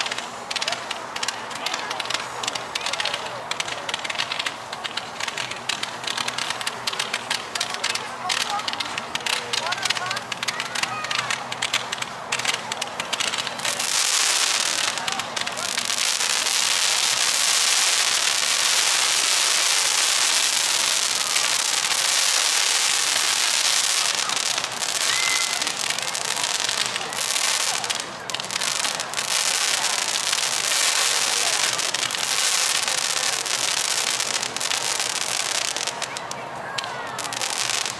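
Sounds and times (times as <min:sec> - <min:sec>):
firework crackle and hiss: 0:00.0 - 0:37.9.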